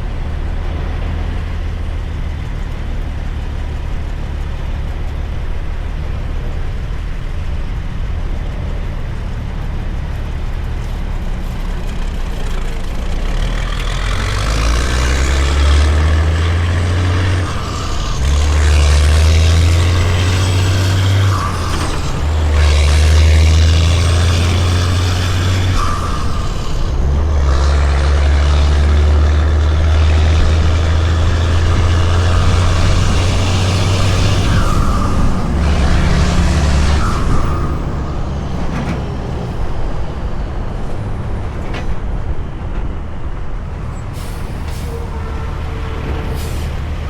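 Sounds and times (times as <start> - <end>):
truck diesel engine shifting gears: 0.0 - 47.0.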